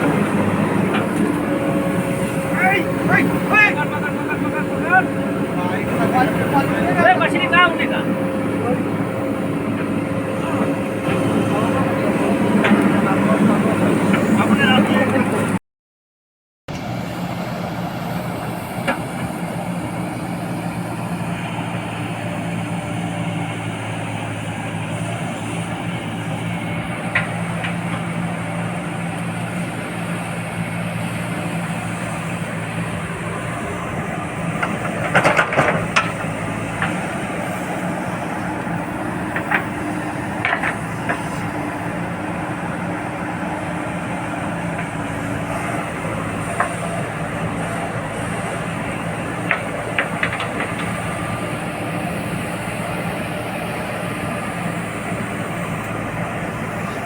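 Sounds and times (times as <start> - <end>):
diesel engine running: 0.0 - 15.6, 16.7 - 57.0.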